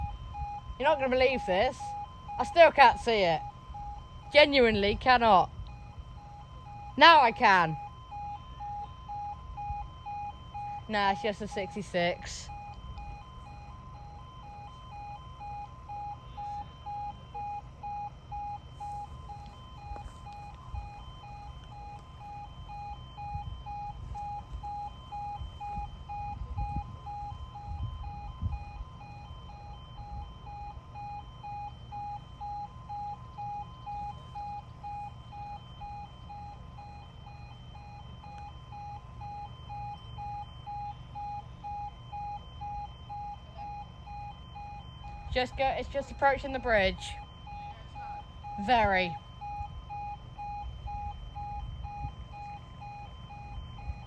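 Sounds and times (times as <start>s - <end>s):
level crossing alarm tone: 0.0s - 54.0s.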